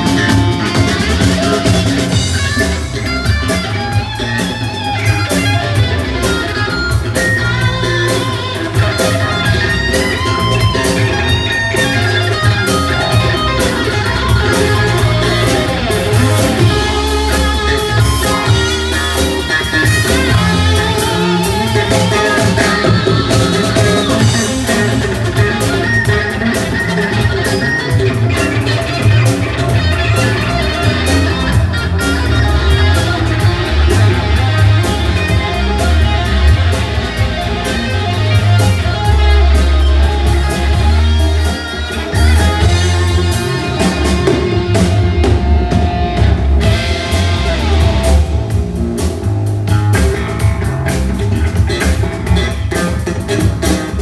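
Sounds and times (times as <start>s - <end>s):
heavy low bass line: 0.0s - 54.0s
rock band music: 0.0s - 54.0s.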